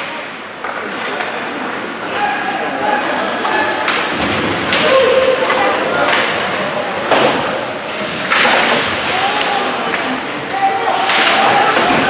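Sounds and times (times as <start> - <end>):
voices calling in a rink: 0.0 - 12.0.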